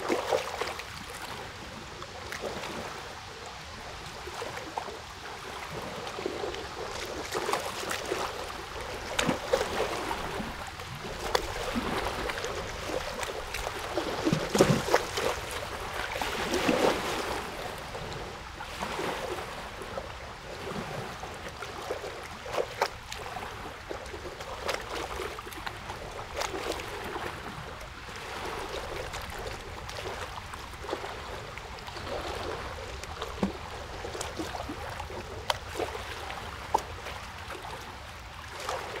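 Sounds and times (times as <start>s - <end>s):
water lapping and splashing: 0.0s - 39.0s.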